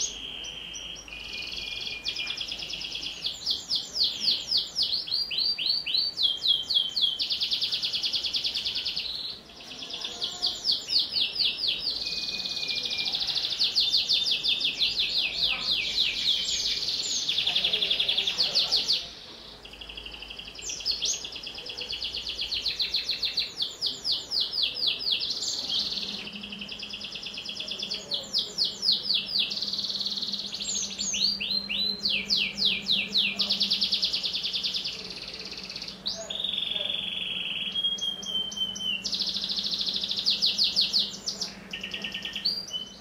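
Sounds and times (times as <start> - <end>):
canary singing trills: 0.0 - 43.0.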